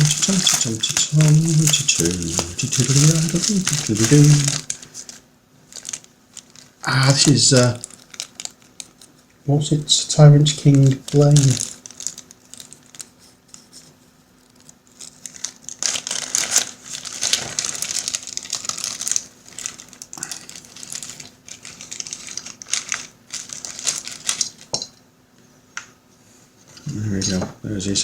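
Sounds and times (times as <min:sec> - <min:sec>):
packaging crinkling: 0:00.0 - 0:24.9
faint steady hum: 0:00.0 - 0:28.0.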